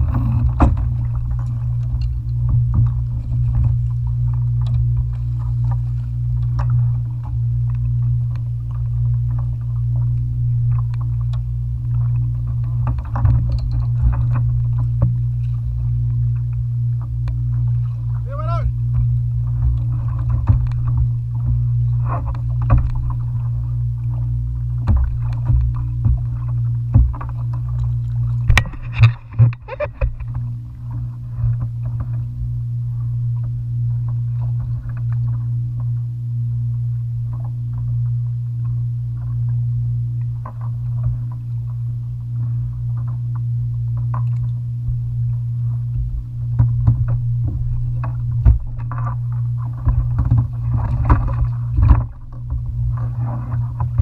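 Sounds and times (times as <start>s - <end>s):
gear knocking against hull: 0.0s - 32.4s, 42.9s - 54.0s
steady low rumble: 0.0s - 54.0s
water slapping against hull: 0.0s - 54.0s.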